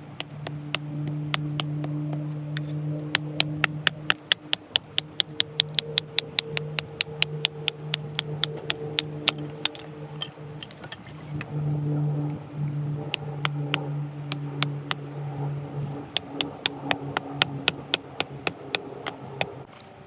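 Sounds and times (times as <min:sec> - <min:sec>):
steady low hum: 0:00.0 - 0:19.7.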